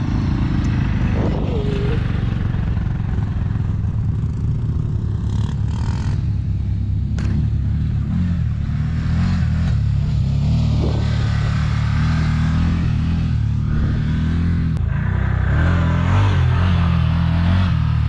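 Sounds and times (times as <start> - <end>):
utility vehicle engine droning: 0.0 - 18.0.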